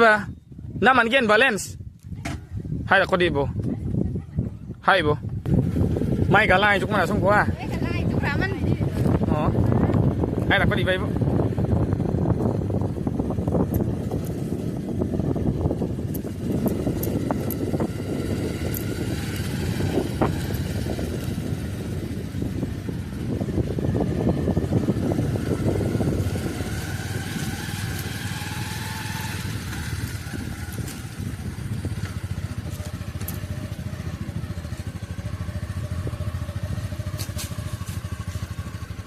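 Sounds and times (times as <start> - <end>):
road noise: 0.0 - 39.0
vehicle engine running: 5.4 - 39.0.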